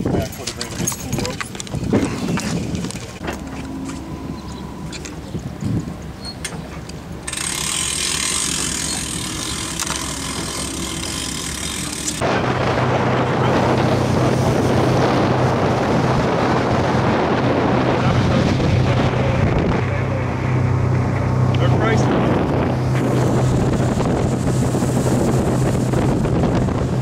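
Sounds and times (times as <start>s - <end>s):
rush of wind and water: 0.0s - 27.0s
motorboat engine humming: 0.4s - 27.0s.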